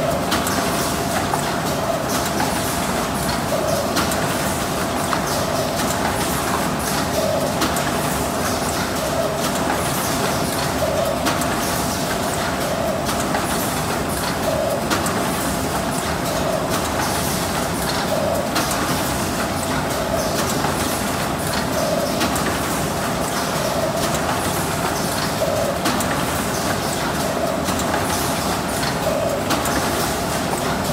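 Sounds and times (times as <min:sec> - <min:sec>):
box making machine running: 0:00.0 - 0:30.9.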